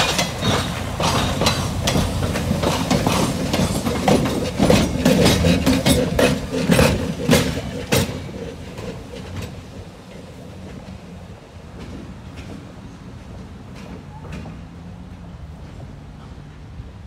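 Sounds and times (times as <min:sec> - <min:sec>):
train rumble: 0:00.0 - 0:17.0
train wheels clicking over rail joints: 0:00.0 - 0:17.0.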